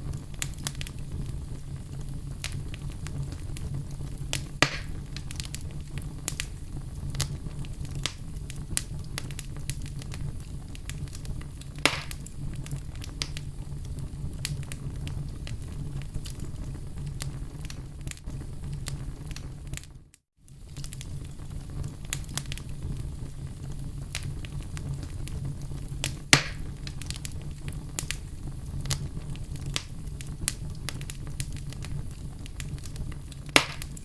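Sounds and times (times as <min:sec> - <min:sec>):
fire crackling in fireplace: 0:00.0 - 0:34.0
loud fire pops: 0:00.0 - 0:34.0.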